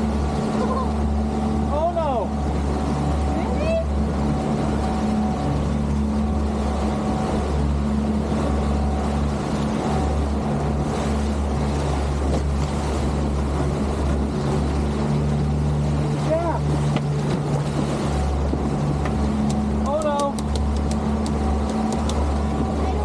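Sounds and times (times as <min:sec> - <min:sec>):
motorboat engine running: 0:00.0 - 0:23.0
rush of wind and water: 0:00.0 - 0:23.0.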